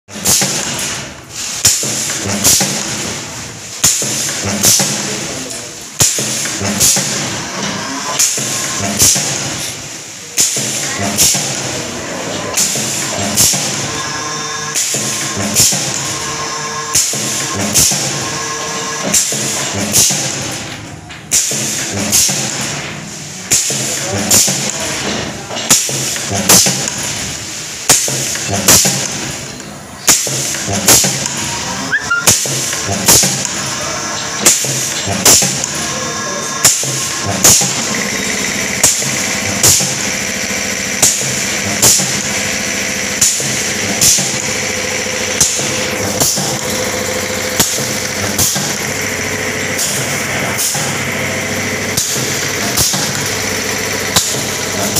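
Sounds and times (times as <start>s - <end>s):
welding machine clack: 0.1s - 54.9s.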